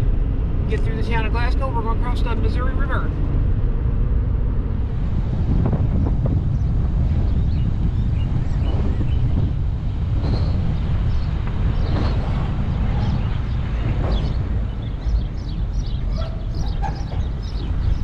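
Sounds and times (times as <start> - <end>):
truck engine and tyres rumbling: 0.0 - 18.0
wind noise: 0.0 - 18.0.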